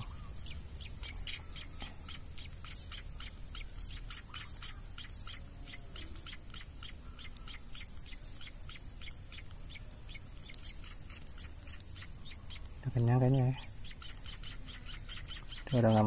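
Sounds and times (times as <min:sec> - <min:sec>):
nestlings begging chirps: 0:00.0 - 0:16.0.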